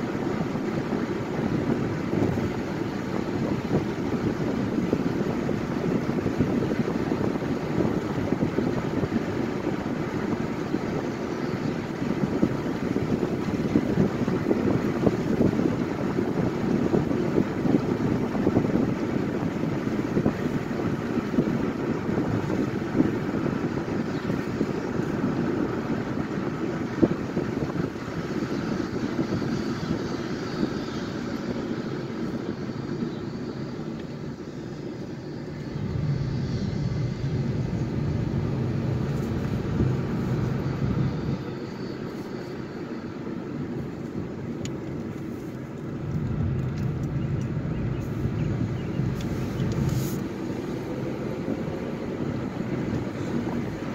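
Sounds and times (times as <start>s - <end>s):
car tyre and engine noise: 0.0s - 53.9s.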